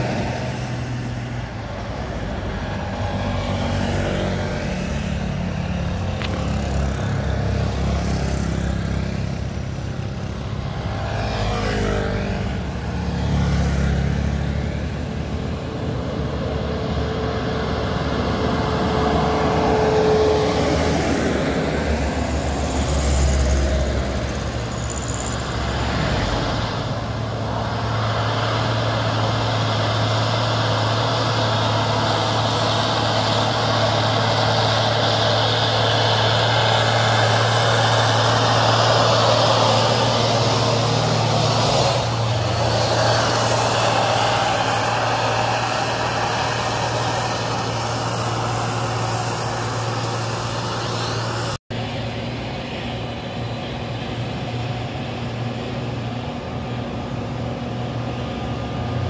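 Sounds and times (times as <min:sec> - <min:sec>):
diesel truck engine drone: 0:00.0 - 0:59.0
tyre and road noise: 0:00.0 - 0:59.0.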